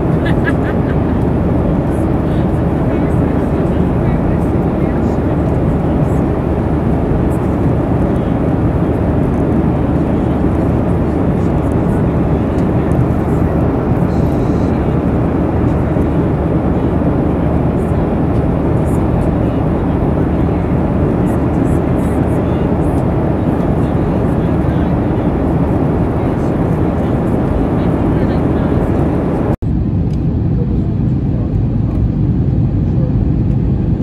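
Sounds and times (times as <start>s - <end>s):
airliner cabin engine rush: 0.0s - 34.0s.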